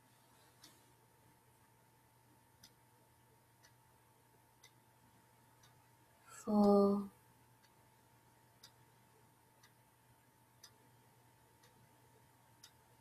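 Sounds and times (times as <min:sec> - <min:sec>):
clock ticking: 0:00.0 - 0:00.8, 0:01.5 - 0:13.0
low steady hum: 0:00.0 - 0:13.0.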